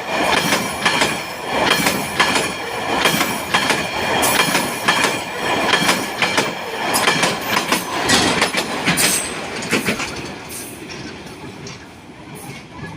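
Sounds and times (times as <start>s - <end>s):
train wheels clattering on track: 0.0s - 12.9s.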